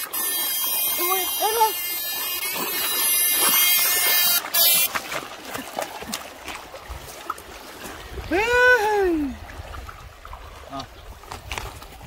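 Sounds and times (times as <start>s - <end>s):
shallow river water splashing: 0.0s - 12.0s.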